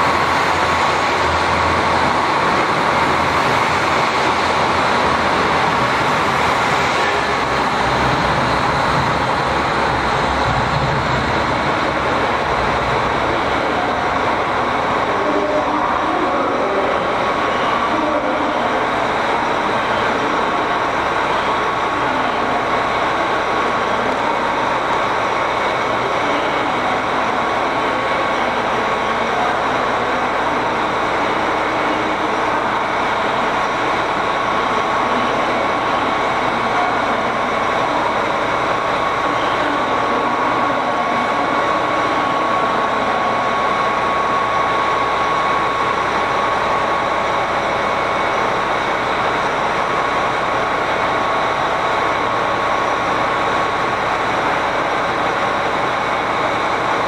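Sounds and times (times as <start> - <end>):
constant high whine: 0.0 - 57.0
train engine rumble: 0.0 - 57.0.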